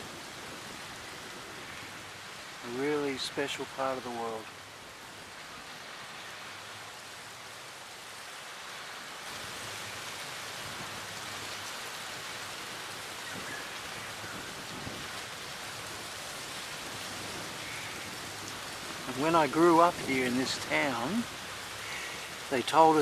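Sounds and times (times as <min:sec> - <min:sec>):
waves washing on sandy shore: 0:00.0 - 0:23.0.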